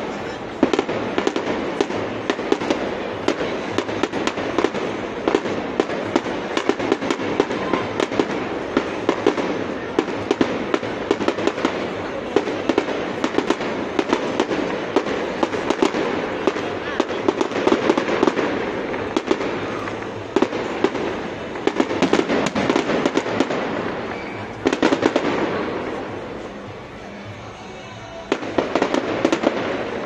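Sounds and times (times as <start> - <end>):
fireworks popping and banging: 0.0 - 30.0.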